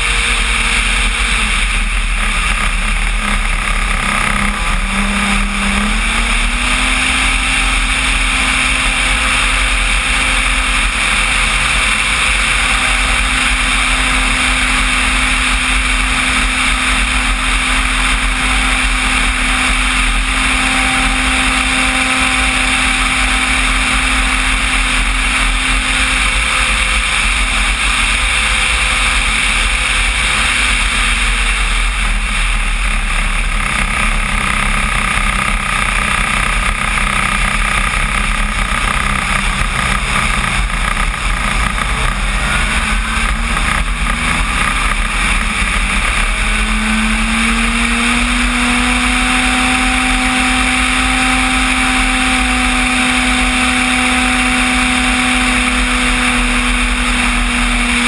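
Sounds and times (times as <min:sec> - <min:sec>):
model plane propeller drone: 0:00.0 - 0:58.0.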